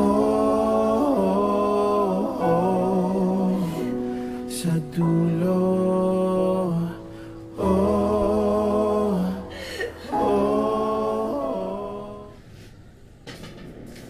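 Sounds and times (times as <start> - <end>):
person singing long wordless notes: 0.0 - 12.4.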